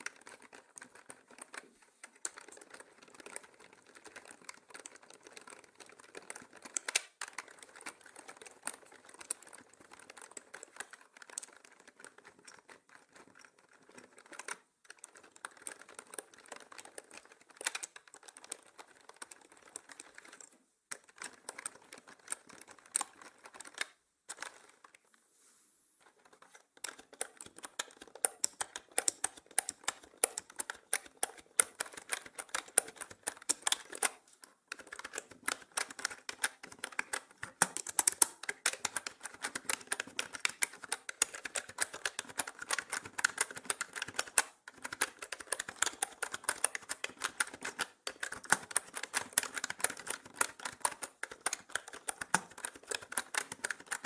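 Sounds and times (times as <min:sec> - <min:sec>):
mechanical keyboard typing: 0:00.0 - 0:25.0, 0:26.0 - 0:54.0.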